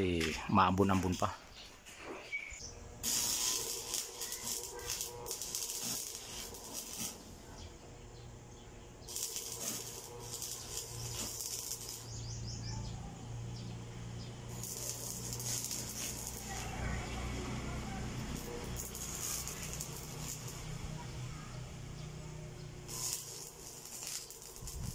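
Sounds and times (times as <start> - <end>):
welding arc crackling and sizzling: 0.1 - 7.8, 9.0 - 12.7, 14.1 - 24.9.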